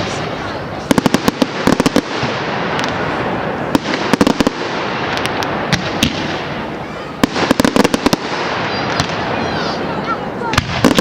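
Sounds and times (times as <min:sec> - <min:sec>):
fireworks bangs: 0:00.0 - 0:11.0
fireworks crackling hiss: 0:00.0 - 0:11.0
fireworks sharp cracks: 0:00.0 - 0:11.0.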